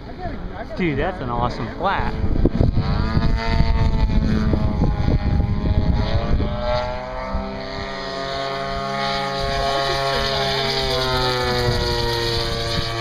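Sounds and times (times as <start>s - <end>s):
wind buffeting microphone: 0.0s - 13.0s
model airplane motor whining: 1.4s - 13.0s.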